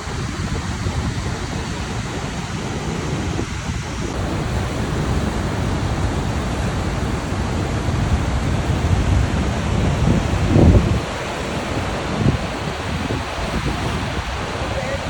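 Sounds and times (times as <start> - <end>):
waterfall rushing: 0.0 - 15.0
wind gust on microphone: 0.0 - 15.0.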